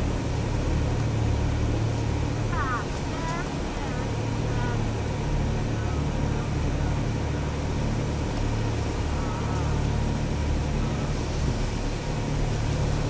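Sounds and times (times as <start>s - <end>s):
vehicle engine low drone: 0.0s - 13.0s.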